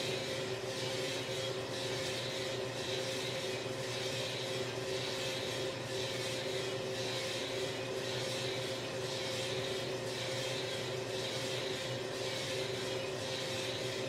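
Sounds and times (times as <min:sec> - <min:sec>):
coffee roaster mechanical hum: 0:00.0 - 0:14.0.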